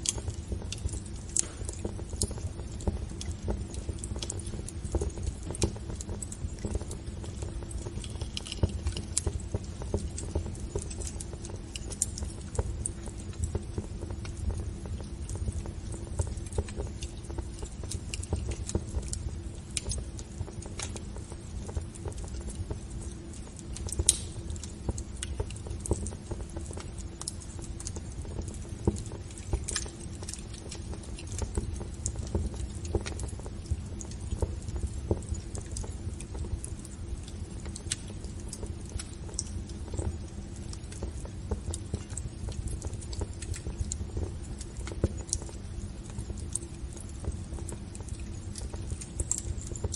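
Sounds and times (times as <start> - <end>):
fire crackling and popping: 0.0 - 49.9
low fire rumble: 0.0 - 49.9.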